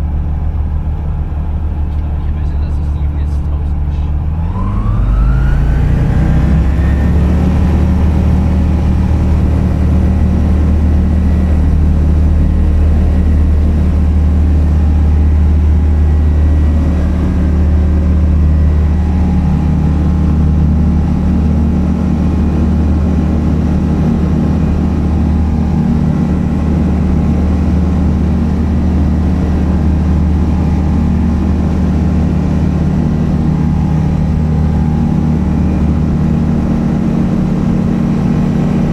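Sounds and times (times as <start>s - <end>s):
light aeroplane engine running: 0.0s - 38.9s.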